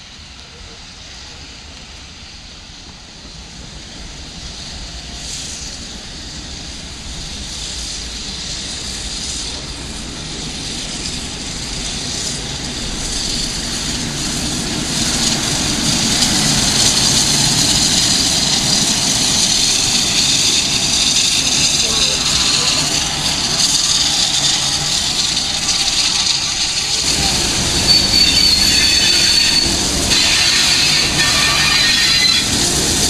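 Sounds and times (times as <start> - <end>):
steam locomotive hissing and rumbling: 0.0 - 33.0.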